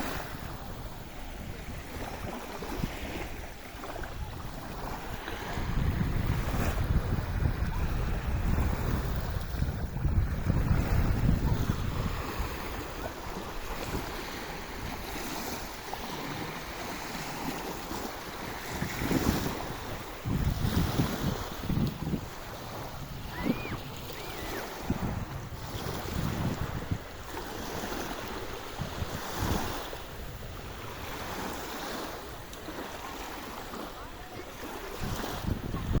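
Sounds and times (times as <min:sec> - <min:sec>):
sea waves washing on shore: 0:00.0 - 0:36.0
wind rumbling on microphone: 0:00.0 - 0:36.0.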